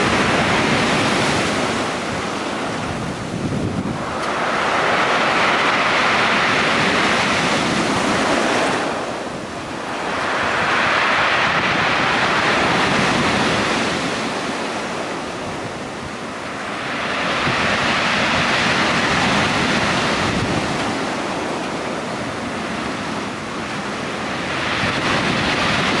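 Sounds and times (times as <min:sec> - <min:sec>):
surf breaking on stony beach: 0:00.0 - 0:26.0.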